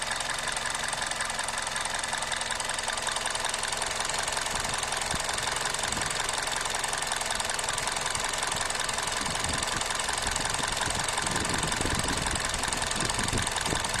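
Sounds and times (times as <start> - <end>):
car engine idling with ticking clatter: 0.0 - 14.0.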